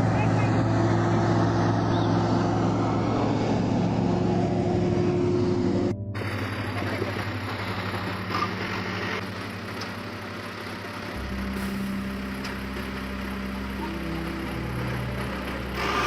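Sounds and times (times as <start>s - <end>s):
deep low hum: 0.0s - 16.0s
heavy vehicle engine running: 0.0s - 16.0s.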